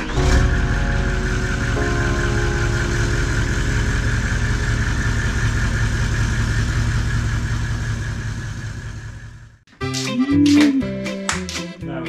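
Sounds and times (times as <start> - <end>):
engine running at low idle: 0.0 - 9.7.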